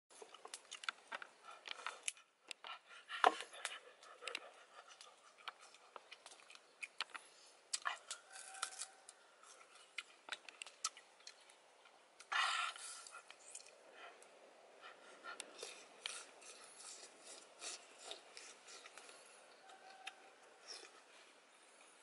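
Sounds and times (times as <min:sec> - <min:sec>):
chewing clicks and smacks: 0:00.2 - 0:12.4, 0:13.0 - 0:14.3, 0:15.3 - 0:21.0
fingers peeling fruit: 0:00.2 - 0:14.3, 0:15.4 - 0:21.1.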